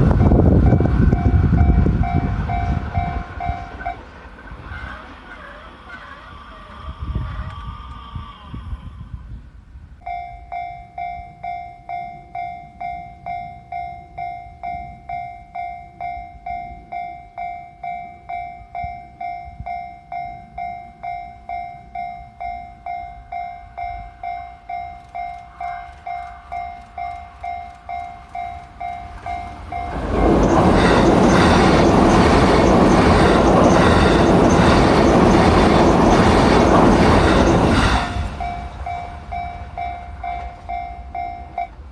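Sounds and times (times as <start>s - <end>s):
level-crossing warning bell: 0.0s - 4.1s, 10.0s - 41.9s
train passing over rails: 0.0s - 41.9s.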